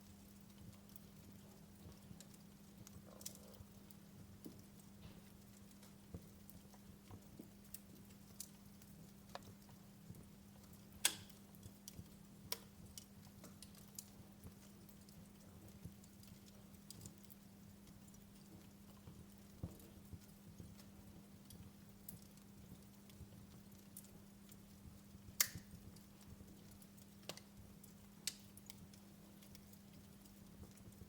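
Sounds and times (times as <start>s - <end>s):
wood fire popping and snapping: 0.0s - 31.0s.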